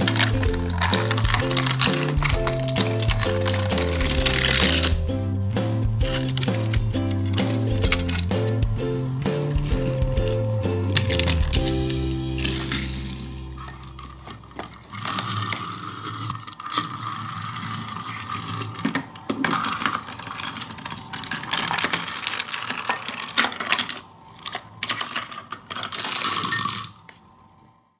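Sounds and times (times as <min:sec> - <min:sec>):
plastic parts clicking and rattling: 0:00.0 - 0:05.1, 0:06.1 - 0:08.7, 0:09.4 - 0:27.2
toy cars rolling on plastic track: 0:00.0 - 0:05.1, 0:06.1 - 0:08.7, 0:09.3 - 0:27.4.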